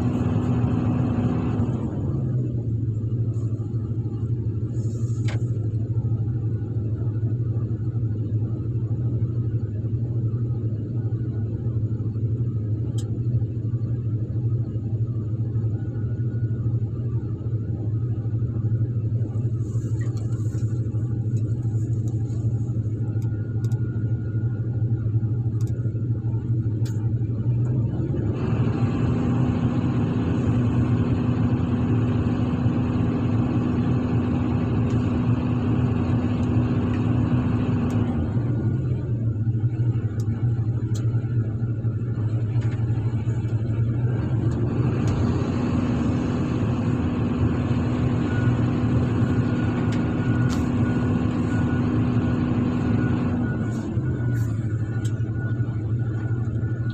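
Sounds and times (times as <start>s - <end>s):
excavator diesel engine running: 0.0s - 7.6s, 15.4s - 56.9s.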